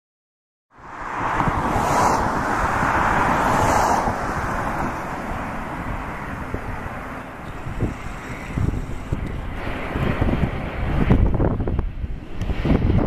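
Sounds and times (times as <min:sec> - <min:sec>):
jet airliner engines rushing: 0:00.8 - 0:13.0.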